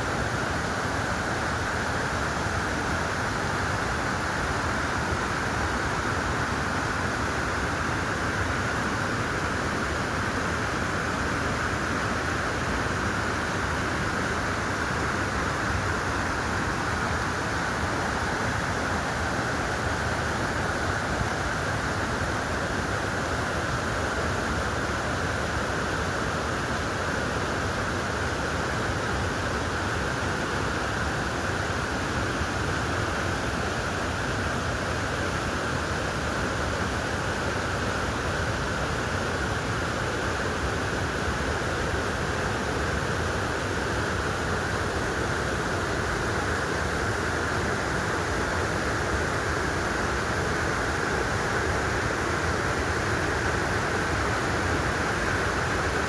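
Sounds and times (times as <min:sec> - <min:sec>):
rushing stream: 0:00.0 - 0:56.0.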